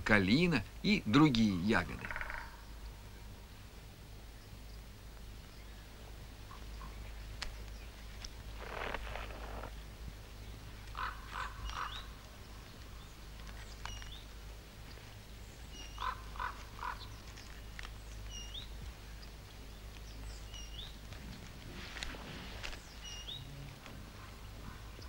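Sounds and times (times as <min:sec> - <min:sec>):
birds calling: 0:00.0 - 0:03.4, 0:04.3 - 0:25.0
low steady hum: 0:00.0 - 0:25.0.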